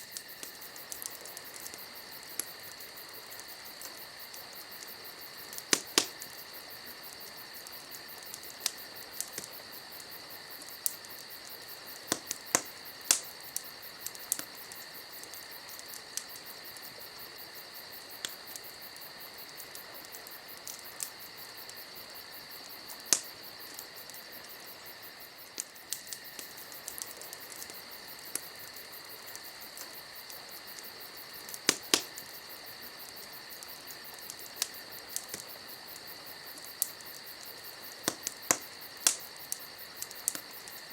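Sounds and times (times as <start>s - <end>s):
crickets trilling: 0.0s - 40.9s
wood fire crackling and popping: 0.0s - 40.9s.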